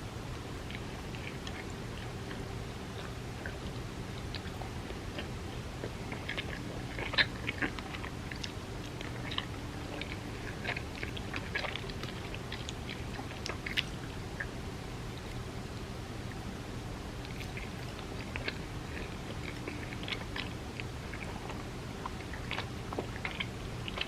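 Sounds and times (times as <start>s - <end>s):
chewing and biting: 0.4s - 24.0s.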